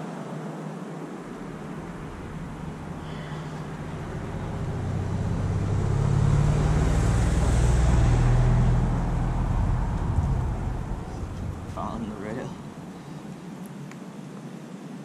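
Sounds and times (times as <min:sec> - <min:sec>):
vehicle engine driving past: 0:01.3 - 0:13.4.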